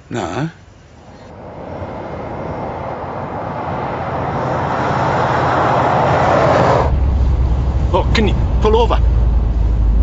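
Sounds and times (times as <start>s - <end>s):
road noise: 0.0s - 10.0s
vehicle engine approaching: 1.3s - 10.0s.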